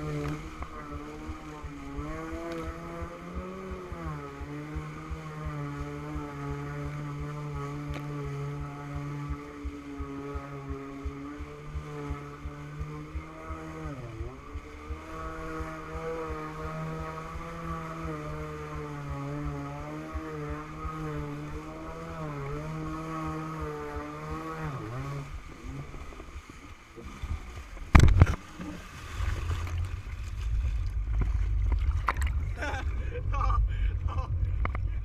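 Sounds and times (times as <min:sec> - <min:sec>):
jet ski engine running: 0:00.0 - 0:35.0.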